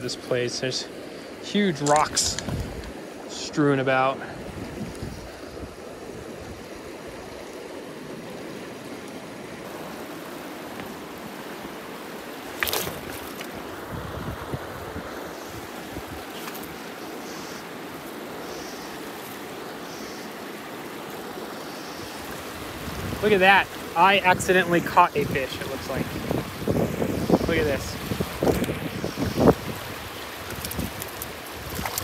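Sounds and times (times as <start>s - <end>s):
creek rushing over boulders: 0.0s - 32.0s.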